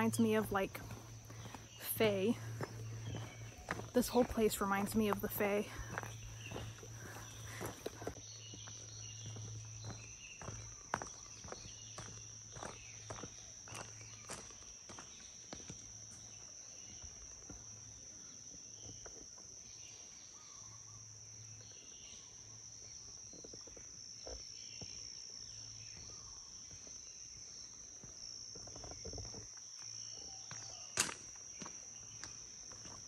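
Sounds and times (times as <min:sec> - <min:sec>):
footsteps on a trail: 0:00.0 - 0:19.5, 0:23.3 - 0:33.0.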